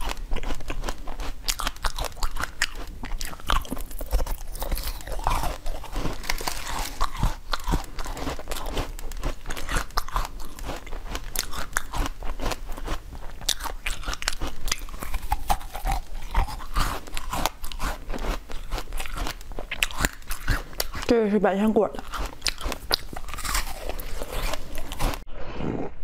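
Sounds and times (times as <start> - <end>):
crisp crunches biting strawberries: 0.0 - 21.1, 21.9 - 26.0
wet chewing: 0.0 - 26.0.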